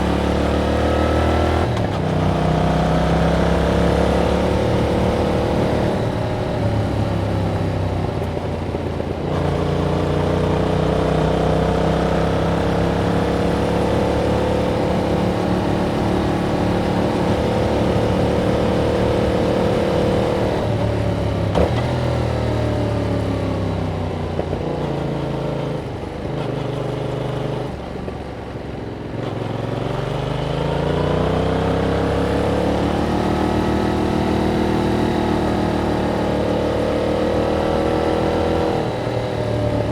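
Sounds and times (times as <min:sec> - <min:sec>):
motorcycle engine riding on road: 0:00.0 - 0:39.9.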